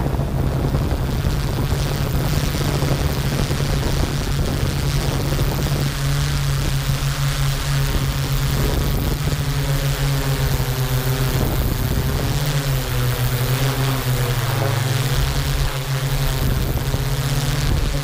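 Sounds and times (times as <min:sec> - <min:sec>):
drone propellers humming: 0:00.0 - 0:18.0
wind hiss: 0:00.0 - 0:18.0.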